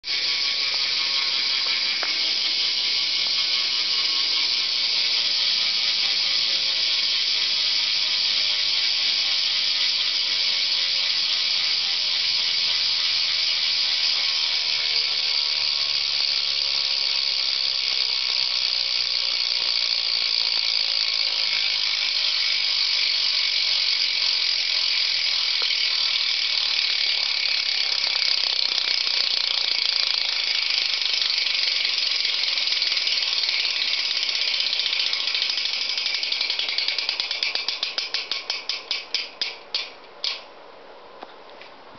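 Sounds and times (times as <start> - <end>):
bike hub freewheel buzzing: 0.0 - 40.6.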